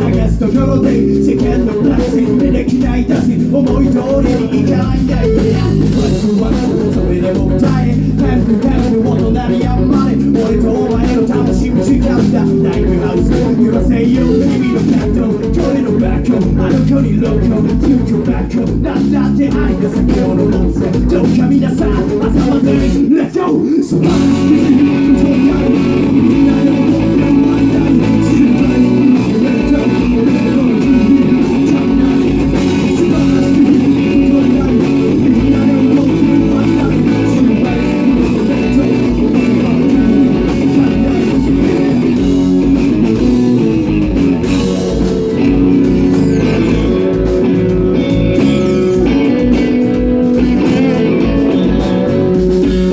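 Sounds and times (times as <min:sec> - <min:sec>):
loud band music: 0:00.0 - 0:52.9.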